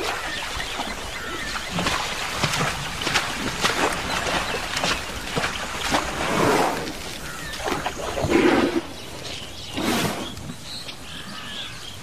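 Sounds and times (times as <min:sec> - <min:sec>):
water splashing and swishing: 0:00.0 - 0:11.0.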